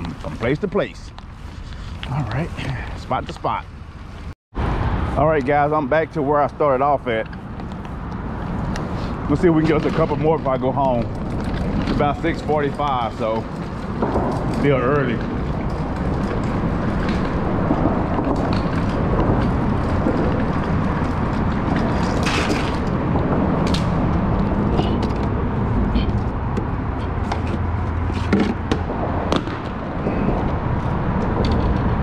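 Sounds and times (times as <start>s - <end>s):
steady loud rumble: 0.0s - 32.0s.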